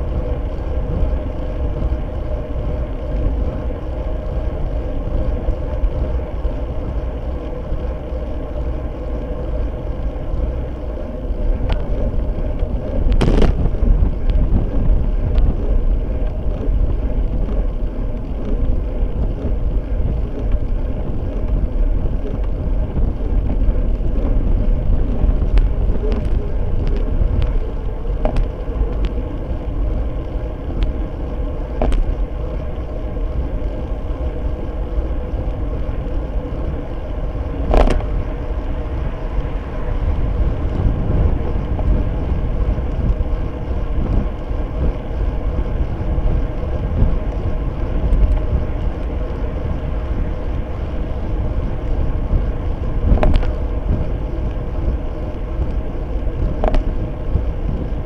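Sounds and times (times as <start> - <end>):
road rumble: 0.0 - 58.0
wind buffeting: 0.0 - 58.0.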